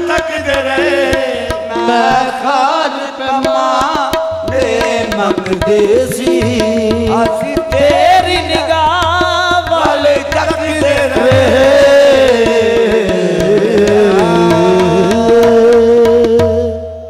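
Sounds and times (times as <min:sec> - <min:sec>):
tabla strokes: 0:00.0 - 0:17.0.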